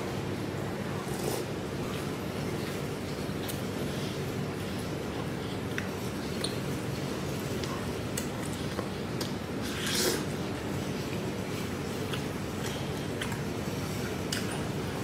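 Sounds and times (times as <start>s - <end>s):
wet chewing: 1.1s - 15.0s.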